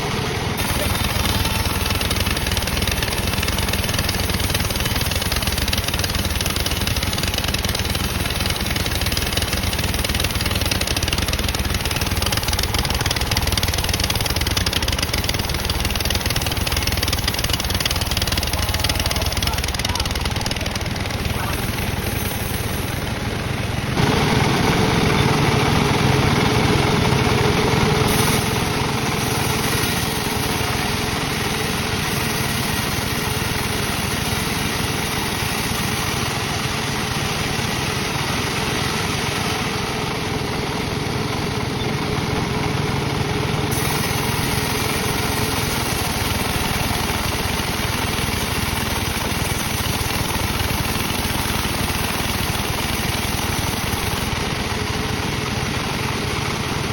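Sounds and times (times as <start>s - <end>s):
sawmill machinery sawing wood: 0.0s - 56.9s.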